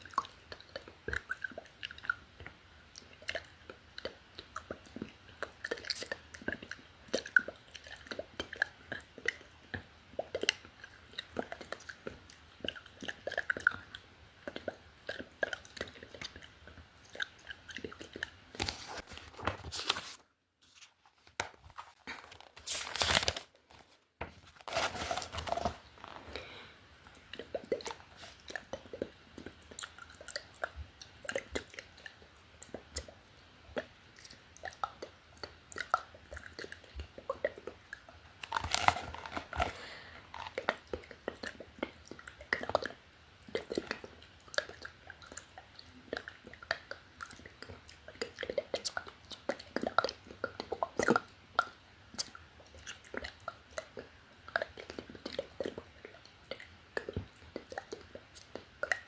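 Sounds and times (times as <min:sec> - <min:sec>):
wet mouth clicks and smacks: 0:00.0 - 0:18.6, 0:27.1 - 0:33.2, 0:33.8 - 0:59.0.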